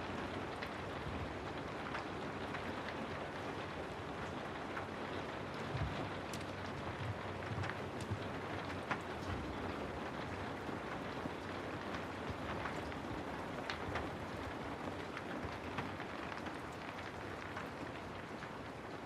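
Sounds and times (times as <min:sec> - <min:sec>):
steady rain hiss: 0:00.0 - 0:19.0
raindrop ticks: 0:00.4 - 0:19.0.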